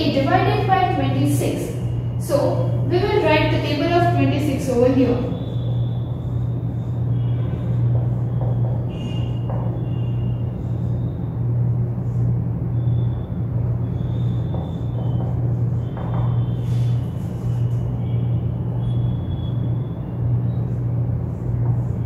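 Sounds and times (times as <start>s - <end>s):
marker squeaking on whiteboard: 0.0s - 22.0s
steady low hum: 0.0s - 22.0s.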